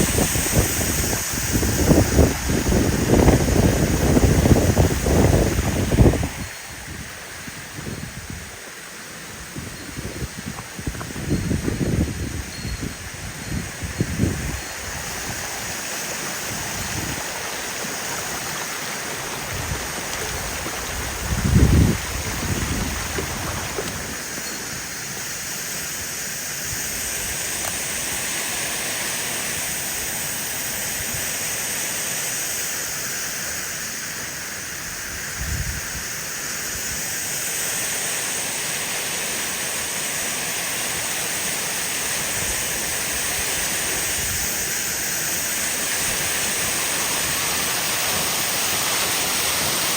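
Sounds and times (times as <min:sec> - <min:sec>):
waterfall rushing: 0:00.0 - 0:09.6, 0:10.3 - 0:32.5, 0:37.3 - 0:49.9.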